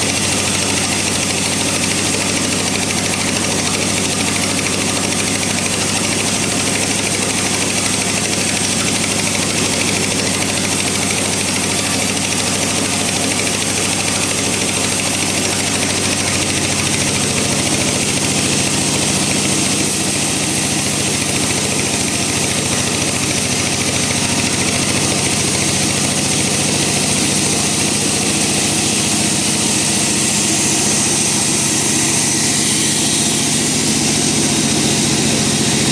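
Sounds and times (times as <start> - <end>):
bandsaw cutting through log: 0.0 - 35.9.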